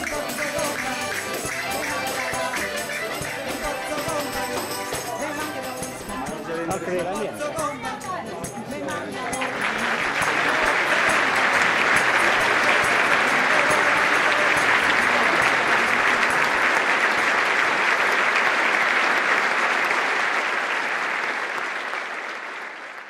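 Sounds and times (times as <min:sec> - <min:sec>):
crowd applauding: 0:00.0 - 0:23.0.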